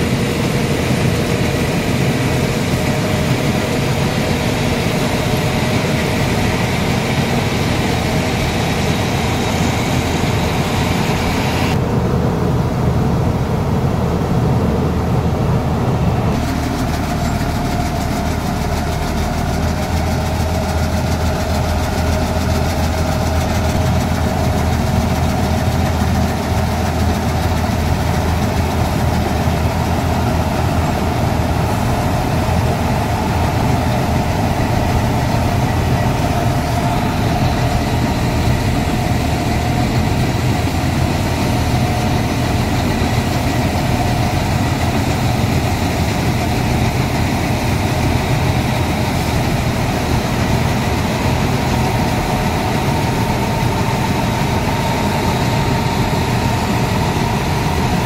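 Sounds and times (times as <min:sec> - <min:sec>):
combine harvester engine hum: 0:00.0 - 0:58.0
high-pitched whine: 0:00.0 - 0:58.0.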